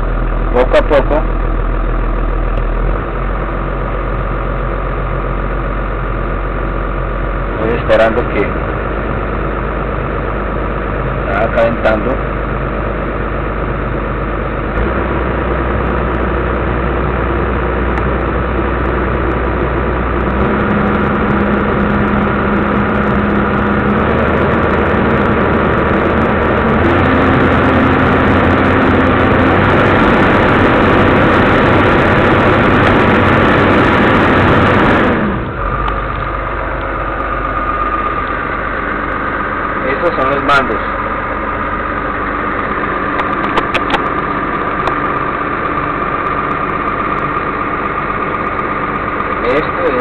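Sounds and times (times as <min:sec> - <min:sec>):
diesel excavator engine running: 0:00.0 - 0:50.0.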